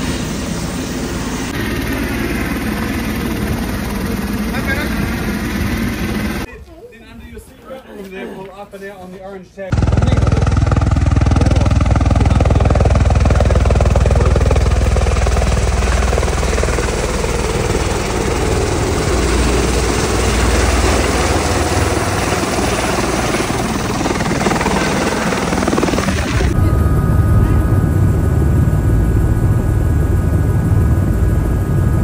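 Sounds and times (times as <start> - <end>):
helicopter rotor and engine noise: 0.0 - 6.5, 9.7 - 32.0.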